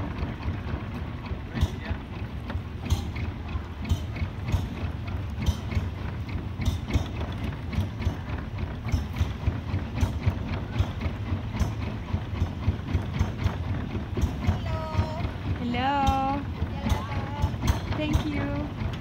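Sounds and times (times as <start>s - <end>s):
boat engine chugging: 0.0s - 19.0s.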